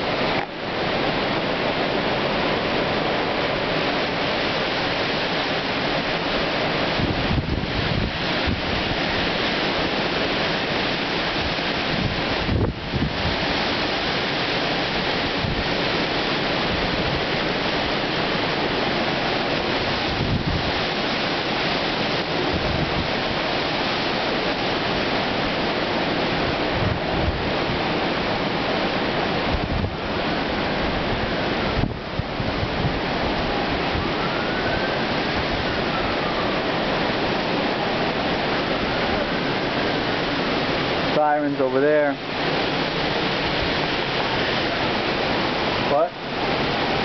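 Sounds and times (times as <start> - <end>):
strong wind through trees: 0.0 - 47.0
wind buffeting the microphone: 0.0 - 47.0
faint sirens wailing: 0.3 - 47.0.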